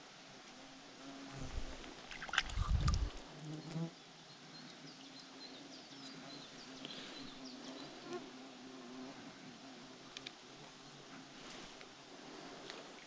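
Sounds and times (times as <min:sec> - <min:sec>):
insect buzzing: 0:00.5 - 0:04.3, 0:05.0 - 0:12.5.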